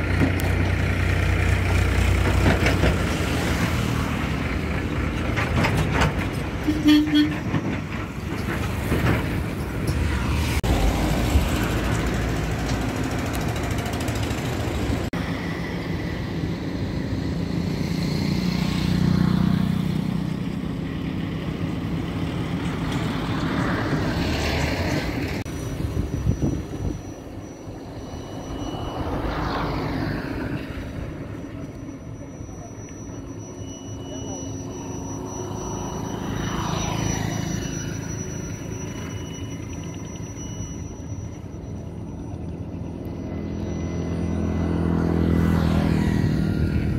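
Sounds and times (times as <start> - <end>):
vehicles passing close by: 0.0 - 46.9.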